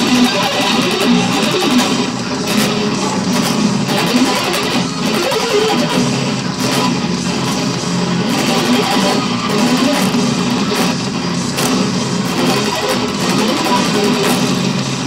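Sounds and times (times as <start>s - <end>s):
electric guitar playing metal: 0.0s - 15.0s.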